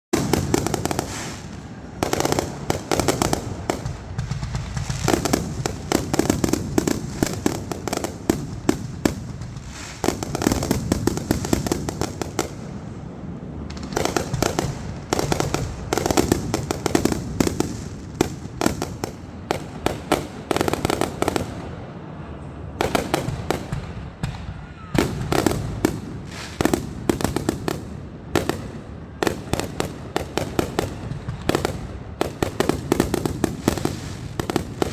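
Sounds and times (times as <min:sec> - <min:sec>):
fireworks bangs: 0:00.1 - 0:34.9.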